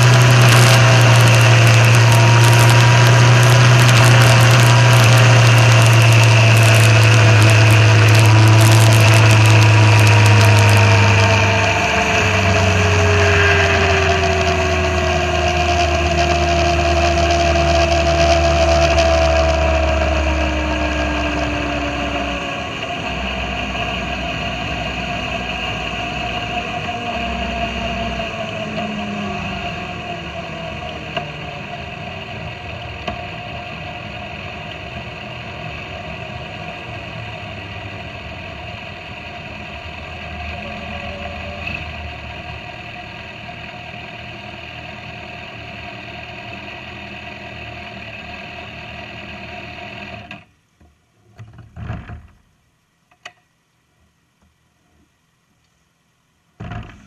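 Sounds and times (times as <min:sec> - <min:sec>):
motorcycle engine running: 0:00.0 - 0:50.5.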